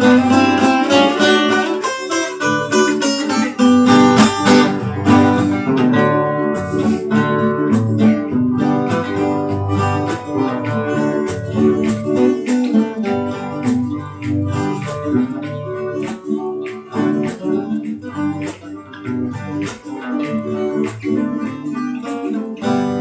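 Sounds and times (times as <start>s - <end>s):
acoustic guitars playing: 0.0s - 23.0s.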